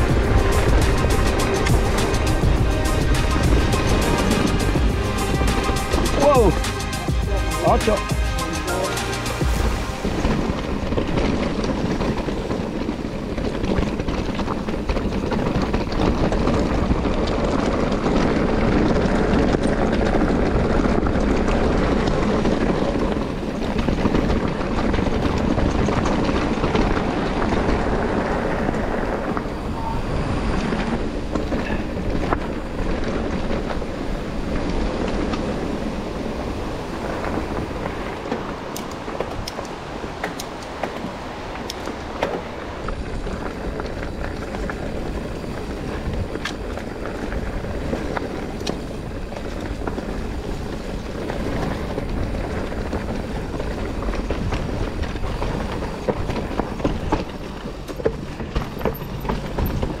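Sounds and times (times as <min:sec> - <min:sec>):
bike rattling and clicking: 0:00.0 - 1:00.0
tyres rushing on dirt and stones: 0:00.0 - 1:00.0.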